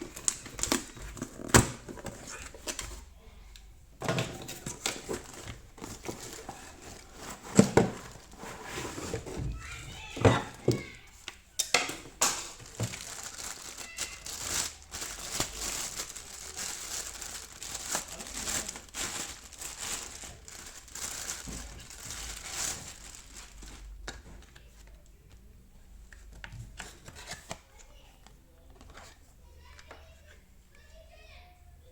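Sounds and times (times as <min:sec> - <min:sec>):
packaging crinkling and rustling: 0:00.0 - 0:03.1, 0:04.0 - 0:25.0, 0:26.2 - 0:27.9.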